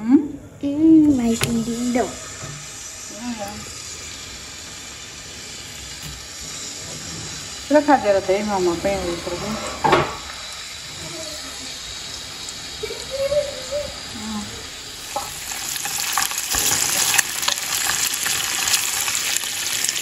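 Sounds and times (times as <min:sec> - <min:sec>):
bacon sizzling and popping in pan: 0:01.1 - 0:20.0.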